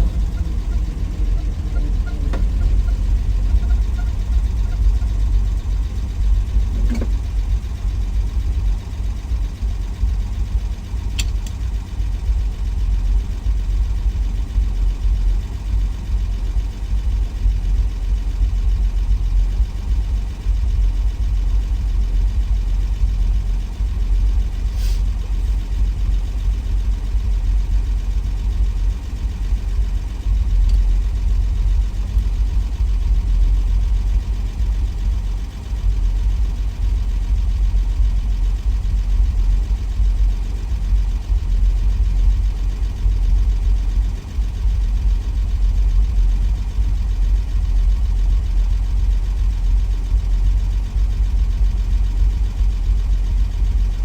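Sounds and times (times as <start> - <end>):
car engine rumbling: 0.0 - 54.0.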